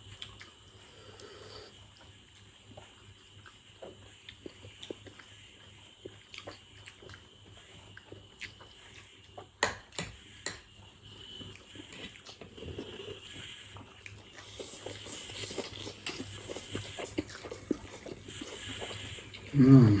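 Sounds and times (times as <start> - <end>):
chewing noodles: 0.0 - 20.0.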